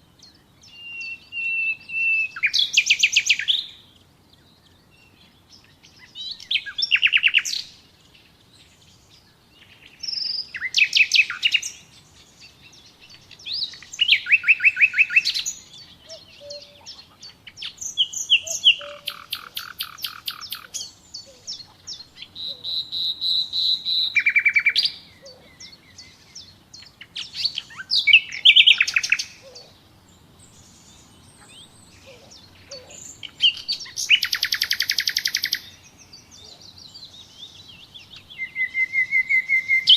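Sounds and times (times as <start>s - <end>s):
songbirds trilling: 0.0s - 39.9s.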